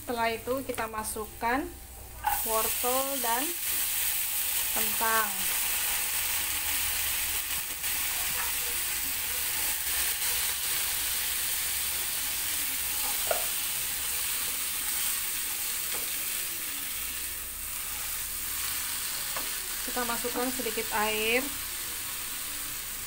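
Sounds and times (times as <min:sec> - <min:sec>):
vegetables sizzling in wok: 0:00.0 - 0:23.0.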